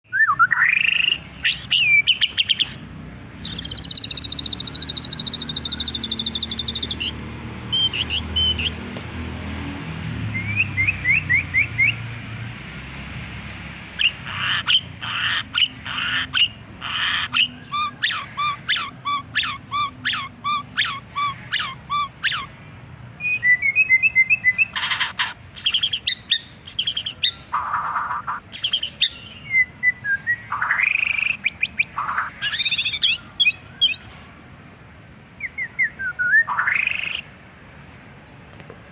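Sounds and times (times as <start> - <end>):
songbird singing varied song: 0.0 - 9.0, 10.2 - 12.3, 13.8 - 37.4.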